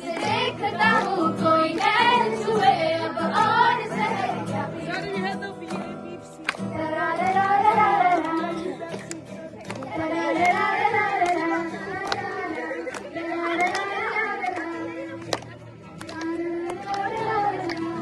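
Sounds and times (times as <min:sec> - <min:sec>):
group singing: 0:00.0 - 0:05.4, 0:06.6 - 0:15.2, 0:16.0 - 0:18.0
acoustic guitar: 0:00.0 - 0:18.0.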